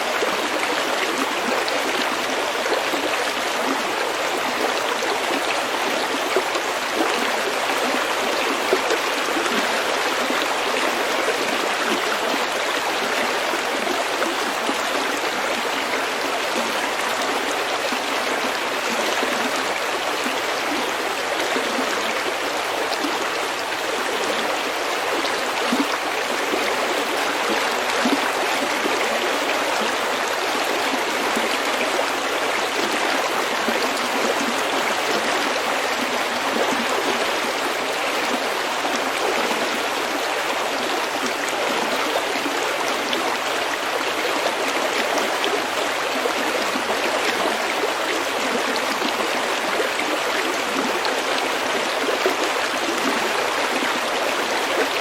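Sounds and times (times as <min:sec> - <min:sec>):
stream babbling over pebbles: 0:00.0 - 0:55.0.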